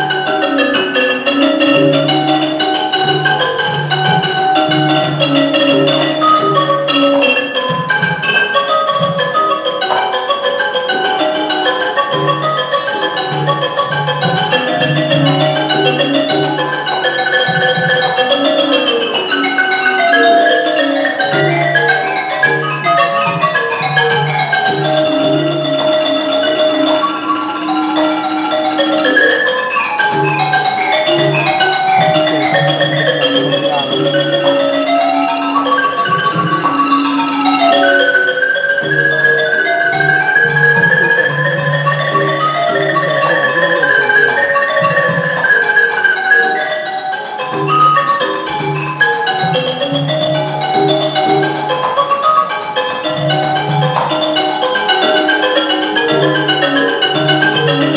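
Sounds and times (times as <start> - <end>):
goblet drum: 0.0 - 57.9
small hand cymbals ticking: 0.0 - 57.9
xylophone fast running notes: 0.0 - 57.9.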